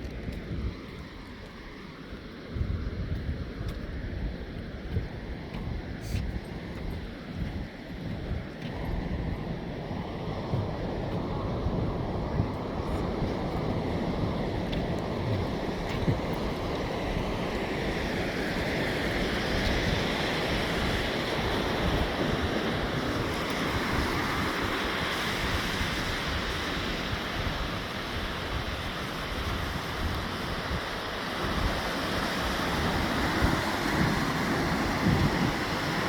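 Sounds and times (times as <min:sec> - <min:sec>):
ocean surf washing on beach: 0:00.0 - 0:36.0
wind buffeting microphone: 0:00.0 - 0:36.0.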